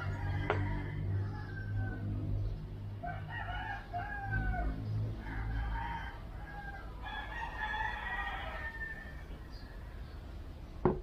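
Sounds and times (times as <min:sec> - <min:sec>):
rooster crowing: 0:00.0 - 0:02.2, 0:03.0 - 0:10.0.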